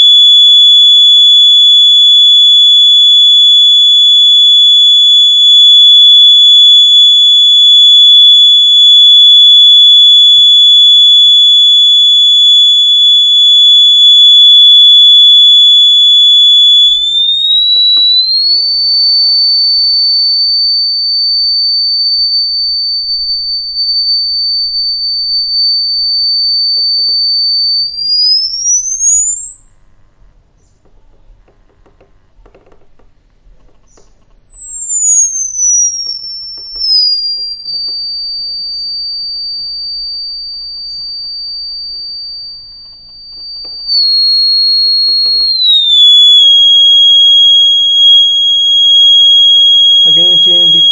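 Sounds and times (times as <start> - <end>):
sine test tone from loudspeaker: 0.0 - 31.4, 32.4 - 50.9.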